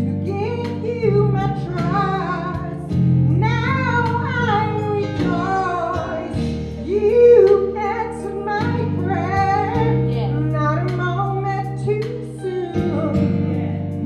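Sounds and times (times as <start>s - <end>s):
women singing worship song: 0.0s - 13.8s
instrumental backing: 0.0s - 14.0s.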